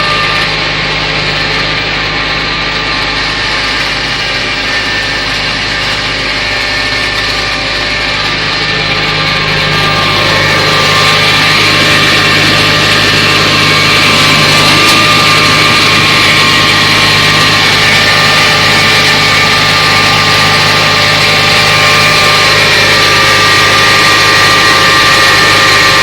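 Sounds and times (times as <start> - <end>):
harvester machinery noise: 0.0 - 26.0
tractor engine running: 0.0 - 26.0.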